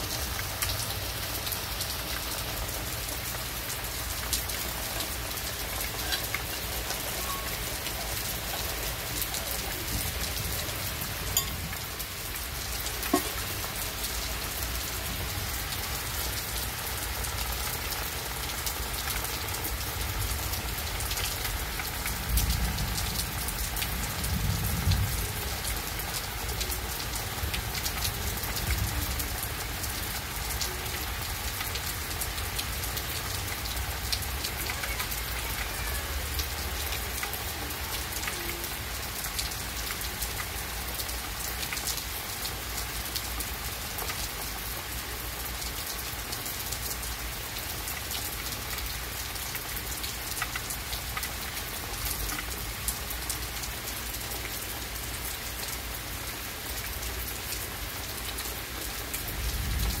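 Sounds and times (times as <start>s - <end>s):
rain falling on trees: 0.0s - 60.0s.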